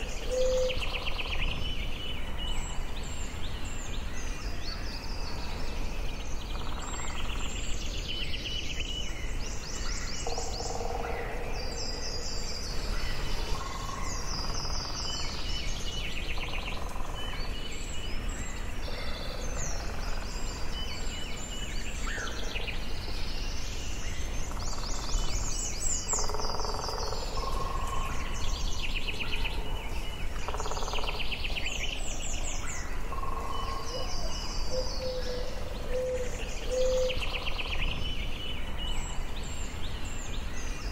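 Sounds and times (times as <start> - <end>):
birds singing and calling: 0.0 - 40.9
low background noise: 0.0 - 40.9.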